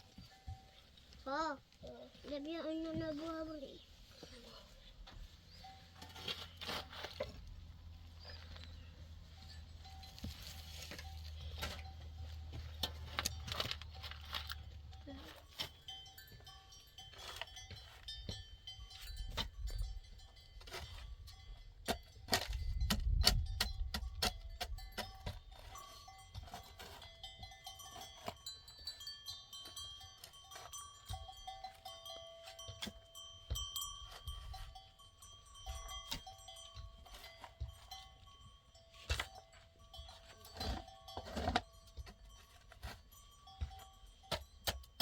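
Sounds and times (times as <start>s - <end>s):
livestock bells clinking: 0.0s - 6.6s, 7.2s - 45.0s.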